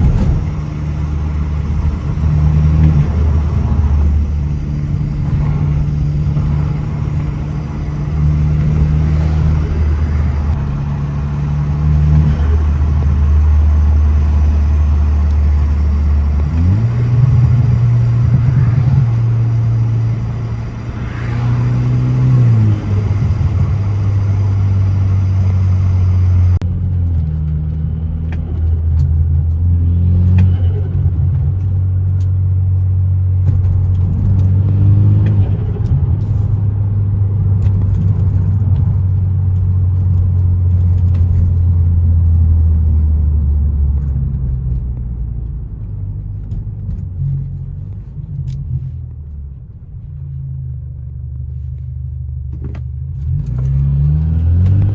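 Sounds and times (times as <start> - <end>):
car engine running: 0.0 - 54.9
road noise: 0.0 - 54.9.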